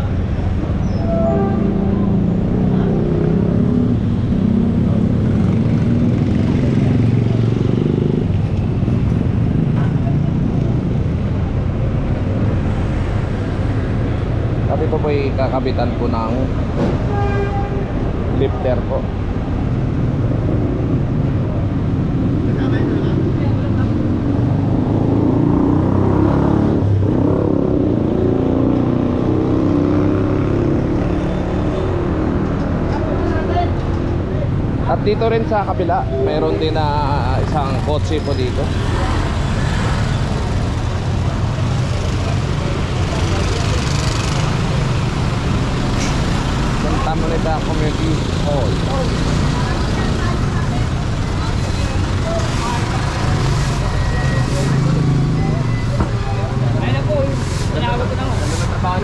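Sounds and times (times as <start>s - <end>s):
street traffic: 0.0s - 59.0s
vehicle engine rumbling: 0.0s - 59.0s.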